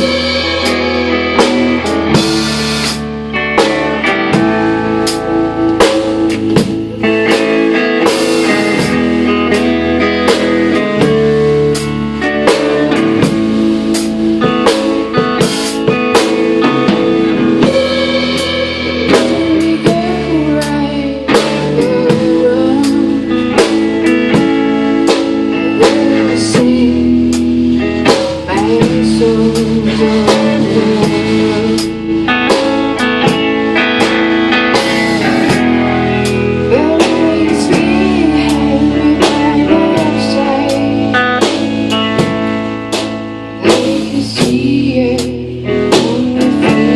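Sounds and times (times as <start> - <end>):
person singing: 0.0 - 3.0, 6.3 - 42.3, 43.4 - 46.9
drum kit: 0.0 - 46.9
guitar: 0.0 - 46.9.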